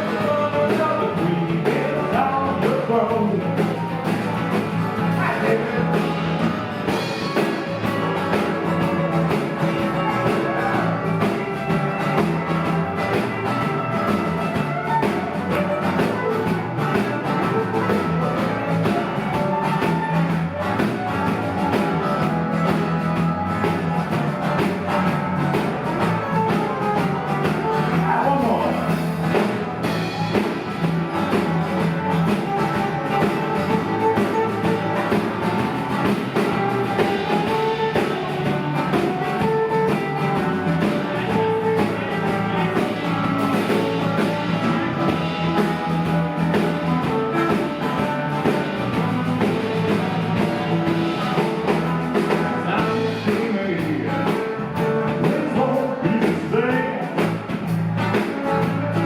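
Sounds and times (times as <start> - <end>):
drum kit: 0.0 - 59.0
electric guitar: 0.0 - 59.0
live rock band playing: 0.0 - 59.0.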